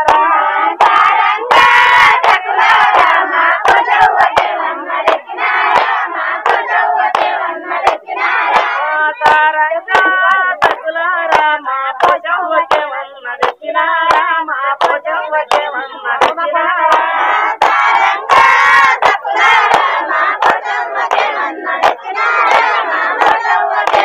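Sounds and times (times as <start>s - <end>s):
hands clapping in rhythm: 0.0s - 24.0s
women singing folk song: 0.0s - 24.0s.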